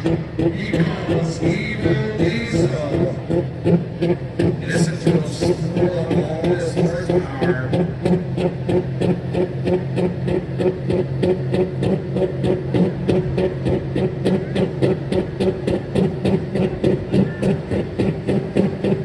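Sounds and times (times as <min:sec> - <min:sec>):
diesel engine at high revs: 0:00.0 - 0:19.0.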